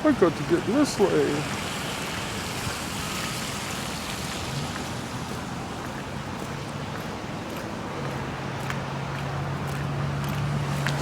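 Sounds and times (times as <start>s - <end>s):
tyres hissing on wet road: 0.0s - 11.0s
vehicle engine hum: 0.0s - 11.0s.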